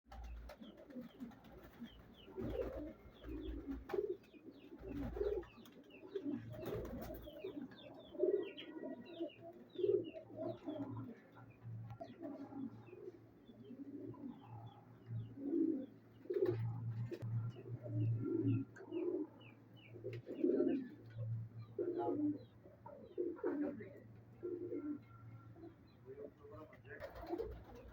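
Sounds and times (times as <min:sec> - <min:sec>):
pigeons cooing: 0:00.1 - 0:27.9.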